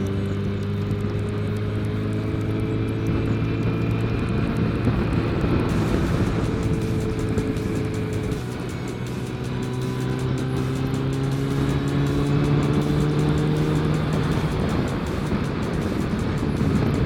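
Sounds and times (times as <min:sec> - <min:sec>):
motorcycle engine accelerating: 0:00.0 - 0:17.0
wind rush: 0:03.0 - 0:17.0.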